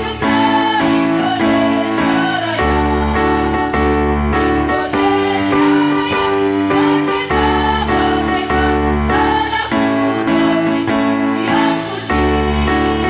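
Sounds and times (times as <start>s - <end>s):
women's choir singing: 0.0s - 13.0s.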